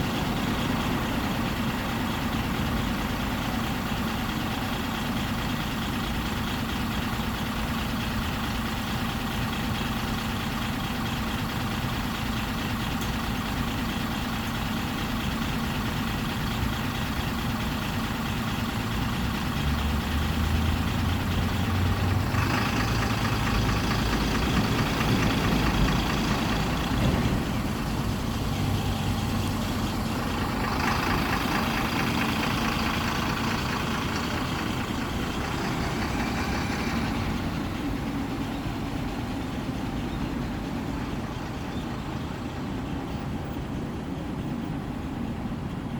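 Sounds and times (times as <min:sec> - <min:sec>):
bus diesel engine idling: 0:00.0 - 0:45.9.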